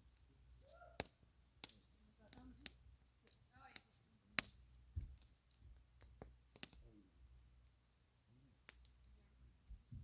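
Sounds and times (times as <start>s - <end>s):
burning wood popping: 0.0s - 10.0s
campfire crackling: 0.0s - 10.0s.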